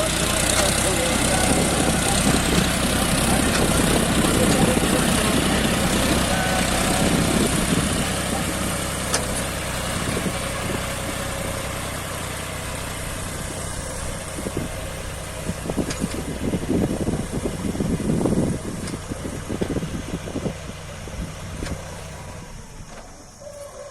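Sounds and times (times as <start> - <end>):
rumbling gusts: 0.0 - 23.9
tractor diesel engine running: 0.0 - 23.9.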